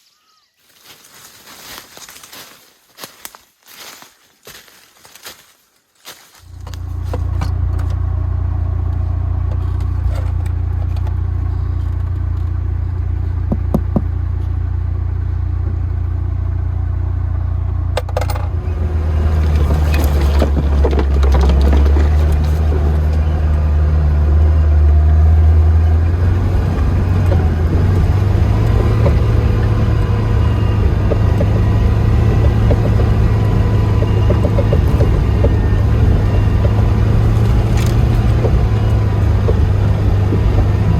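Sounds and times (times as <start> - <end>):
car engine droning: 6.4 - 40.9.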